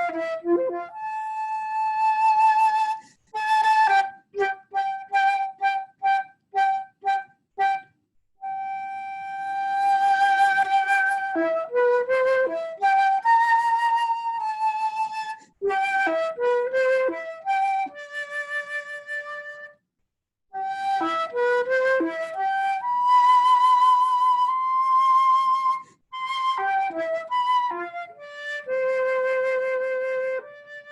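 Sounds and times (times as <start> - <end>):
solo flute melody: 0.0 - 19.8, 20.6 - 30.9.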